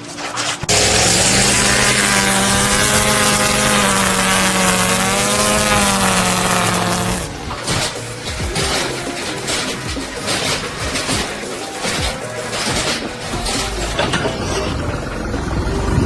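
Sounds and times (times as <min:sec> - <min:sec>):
loud motor humming and hissing: 0:00.7 - 0:14.2.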